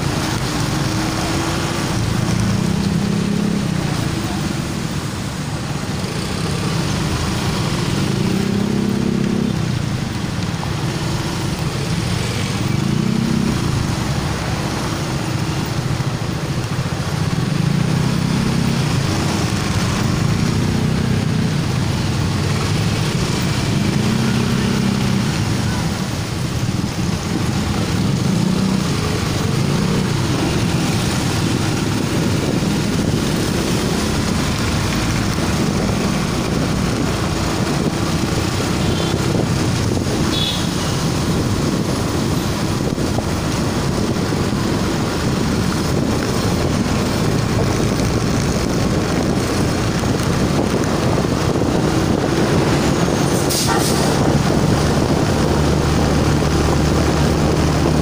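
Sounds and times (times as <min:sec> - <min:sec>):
road noise: 0:00.0 - 0:58.0
wind noise: 0:00.0 - 0:58.0.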